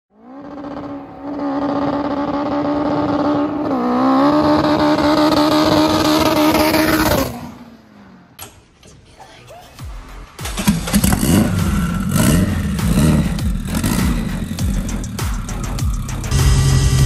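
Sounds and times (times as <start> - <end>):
car engine revving high: 0.1 - 8.3, 10.9 - 17.0.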